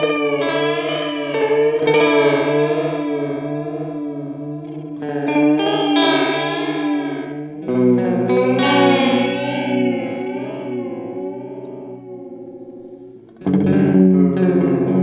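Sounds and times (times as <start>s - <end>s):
electric guitar chords with chorus: 0.0s - 15.0s.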